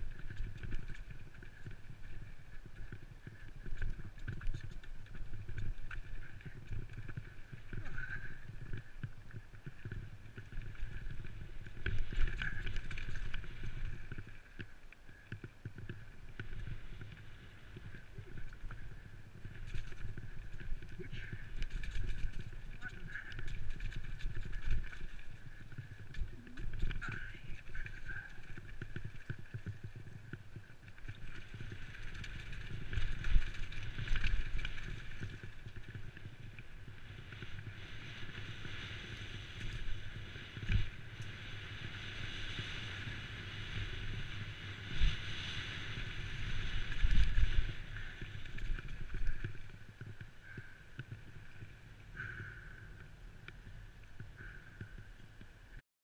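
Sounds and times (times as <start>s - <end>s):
bike tyre noise: 0.0s - 55.6s.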